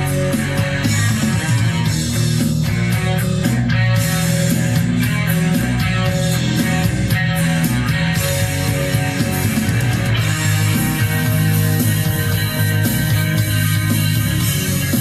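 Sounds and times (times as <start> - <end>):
rock music with guitar: 0.0 - 15.0.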